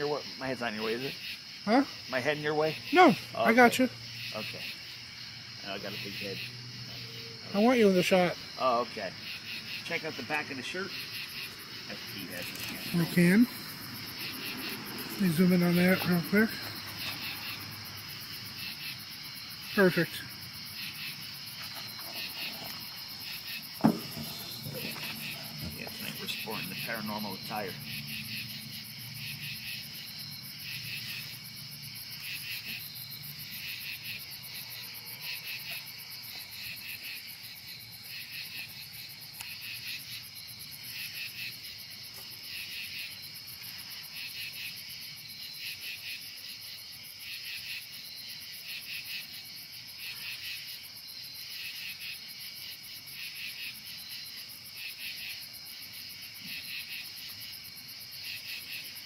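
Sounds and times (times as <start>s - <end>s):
crickets chirping: 0.0s - 59.0s
pulsing insect call: 0.0s - 59.0s.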